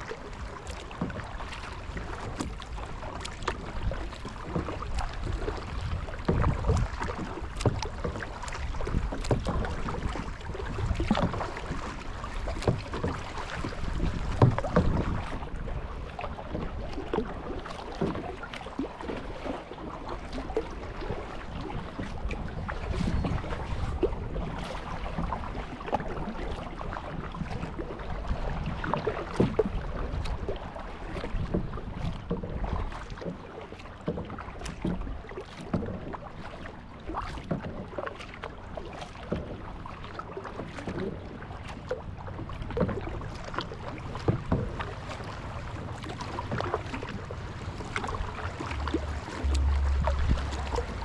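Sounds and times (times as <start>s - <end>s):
paddle splashes and drips: 0.0s - 51.0s
steady wash of water: 0.0s - 51.0s.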